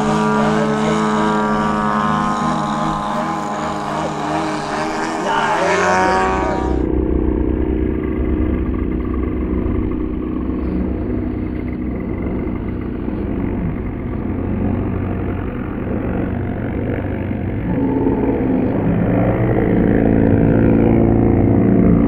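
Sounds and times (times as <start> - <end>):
model airplane motor and propeller: 0.0 - 22.0.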